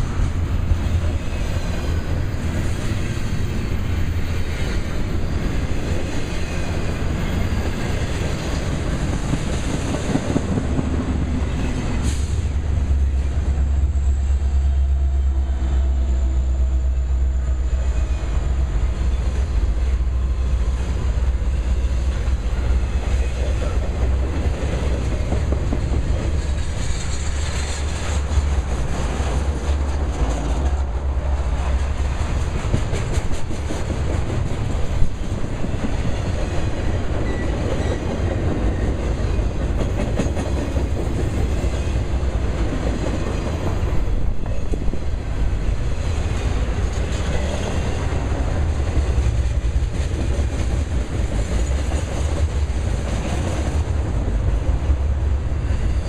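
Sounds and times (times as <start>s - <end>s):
freight cars rumbling and rattling: 0.0s - 56.0s.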